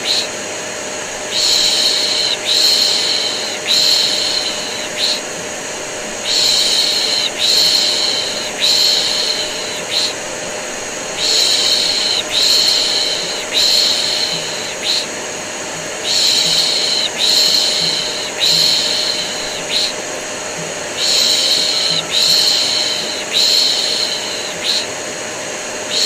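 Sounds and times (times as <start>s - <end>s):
vacuum cleaner hiss and hum: 0.0s - 26.0s.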